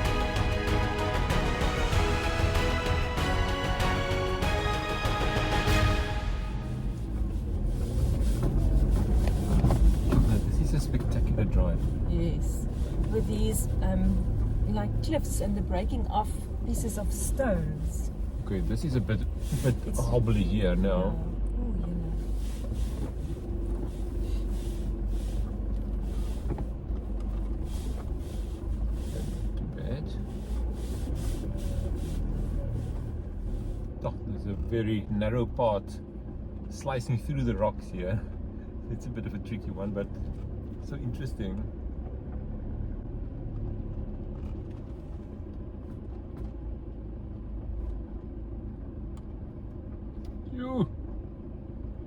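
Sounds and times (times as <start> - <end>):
low engine and tyre rumble: 0.0 - 52.0.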